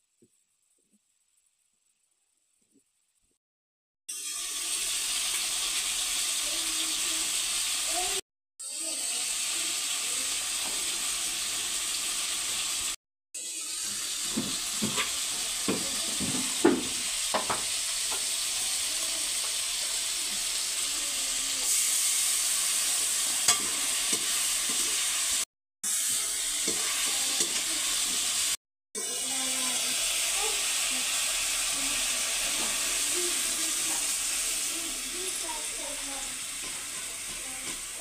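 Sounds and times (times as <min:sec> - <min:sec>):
vegetables sizzling in oil: 0:00.0 - 0:03.4, 0:04.1 - 0:38.0.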